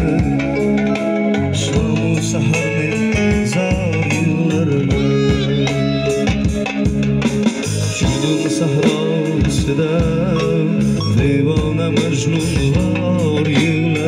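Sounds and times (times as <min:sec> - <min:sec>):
man singing: 0:00.0 - 0:06.2, 0:07.9 - 0:14.0
live band over loudspeakers: 0:00.0 - 0:14.0.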